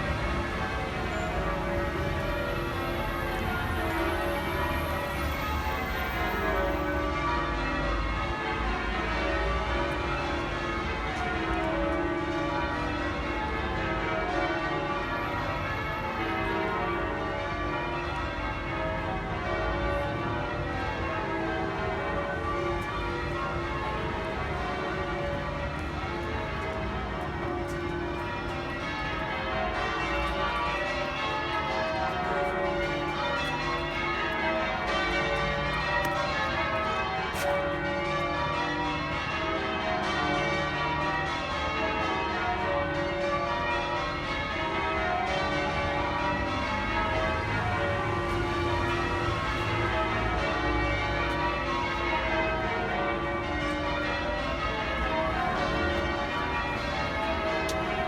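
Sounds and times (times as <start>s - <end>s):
church bells change-ringing: 0.0s - 58.0s.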